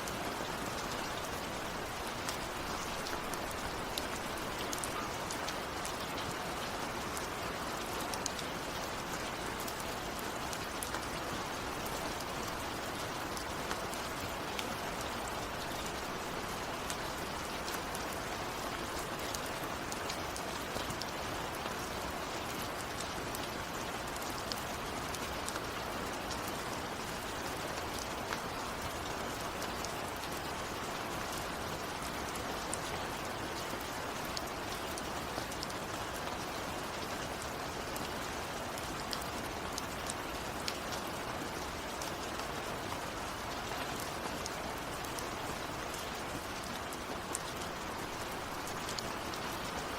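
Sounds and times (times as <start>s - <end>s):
close raindrops ticking: 0.0s - 49.9s
steady rain: 0.0s - 49.9s.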